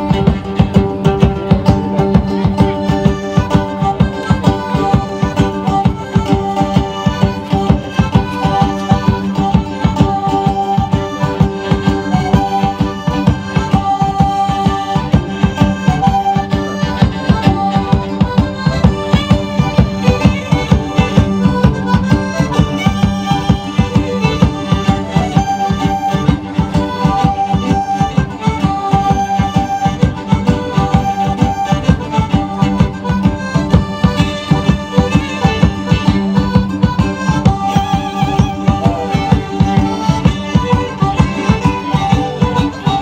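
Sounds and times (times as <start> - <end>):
accordion band playing folk music: 0.0 - 43.0.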